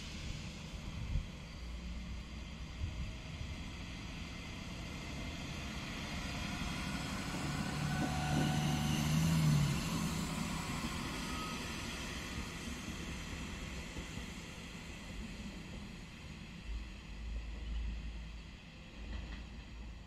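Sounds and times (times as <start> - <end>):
diesel train passing: 0.0 - 20.0.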